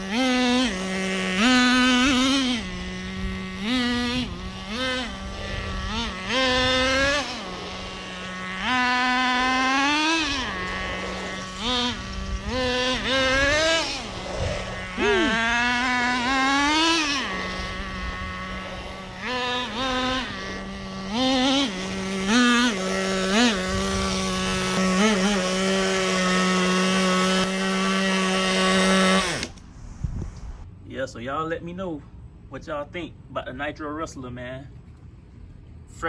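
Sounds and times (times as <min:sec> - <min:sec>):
small engine idling and revving: 0:00.0 - 0:29.8.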